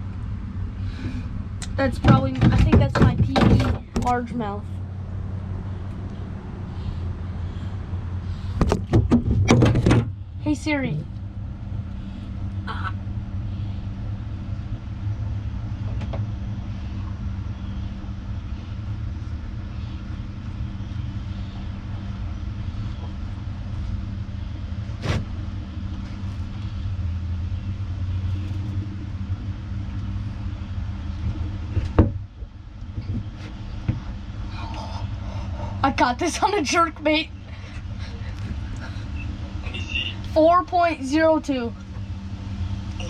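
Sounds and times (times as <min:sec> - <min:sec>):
low motor hum: 0:00.0 - 0:43.0.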